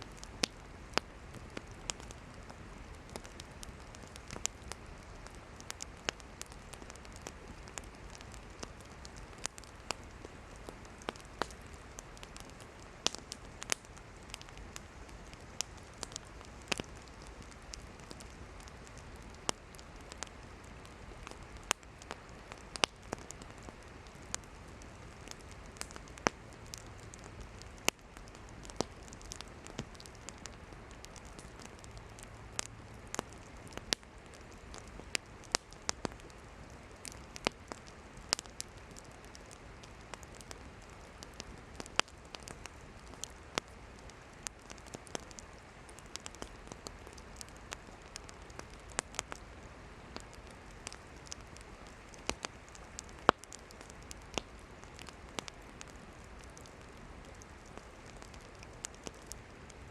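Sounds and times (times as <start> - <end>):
campfire crackling and popping: 0.0 - 59.9
flames hissing: 0.1 - 59.9.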